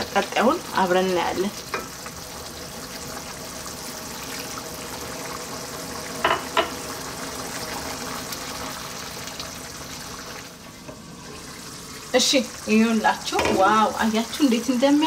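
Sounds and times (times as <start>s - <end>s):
stew sizzling and bubbling: 0.0s - 15.0s.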